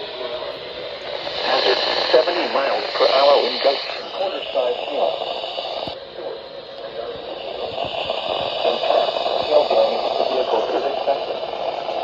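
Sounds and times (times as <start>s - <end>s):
static hiss: 0.0s - 12.0s
synthesized voice over radio: 0.0s - 12.0s.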